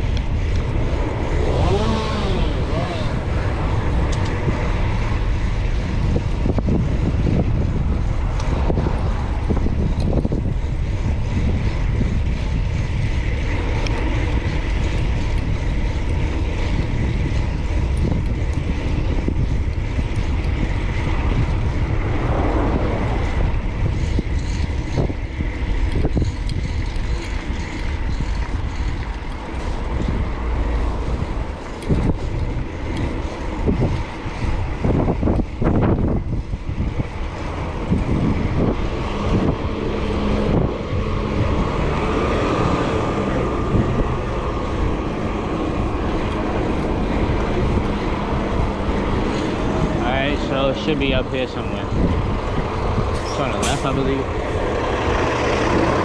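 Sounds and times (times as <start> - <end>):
passing vehicles: 0.0 - 56.0
wind rushing over microphone: 0.0 - 56.0.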